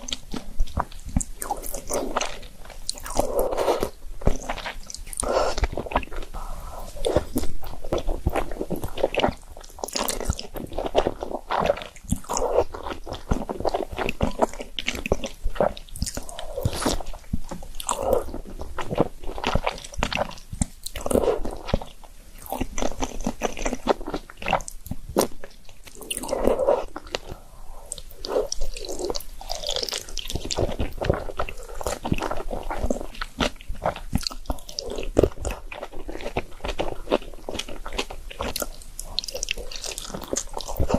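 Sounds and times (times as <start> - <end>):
person chewing noodles: 0.0 - 40.9.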